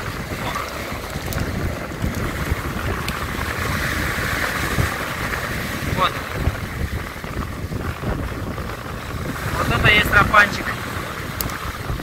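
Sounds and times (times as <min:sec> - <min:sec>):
waves breaking on pebble beach: 0:00.0 - 0:12.0
wind buffeting microphone: 0:00.0 - 0:12.0.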